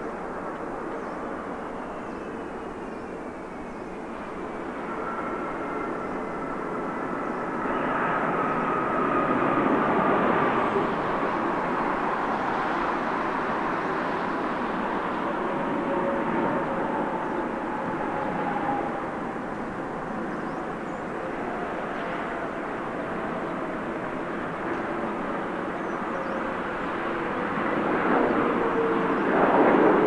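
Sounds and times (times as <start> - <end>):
jet engine whine: 0.0 - 30.0
jet plane passing on landing: 0.0 - 30.0.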